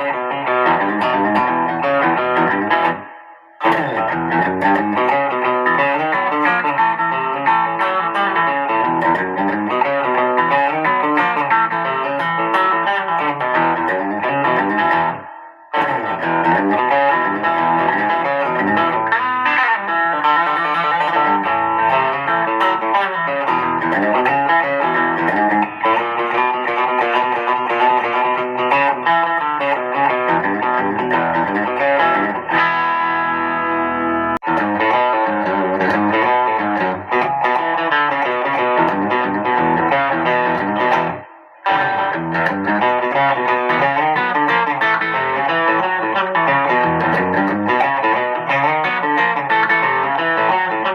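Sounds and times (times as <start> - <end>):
electric guitar through amplifier: 0.0 - 50.9.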